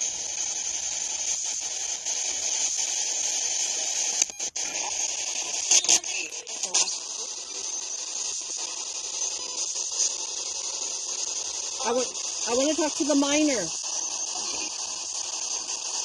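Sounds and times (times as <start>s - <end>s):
radio static hiss: 0.0s - 16.0s
static crackle: 0.0s - 16.0s.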